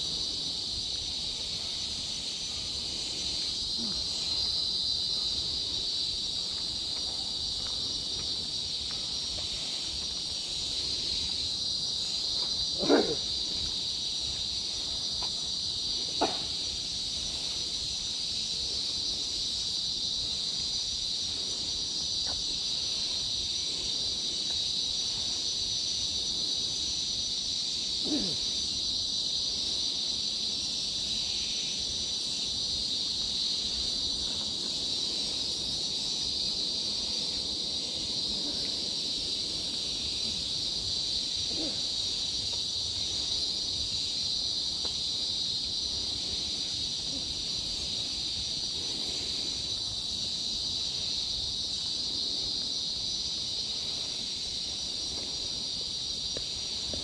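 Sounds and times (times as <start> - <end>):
insect chorus drone: 0.0 - 57.0.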